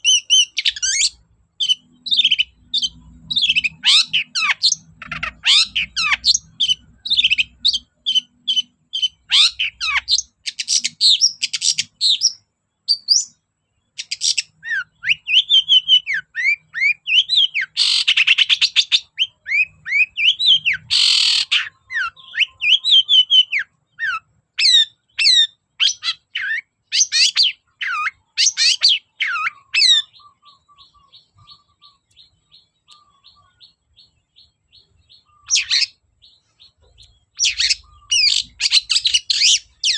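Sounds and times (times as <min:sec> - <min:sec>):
bird singing chirps and trills: 0:00.0 - 0:39.9
harsh rasping bird calls: 0:00.0 - 0:39.9.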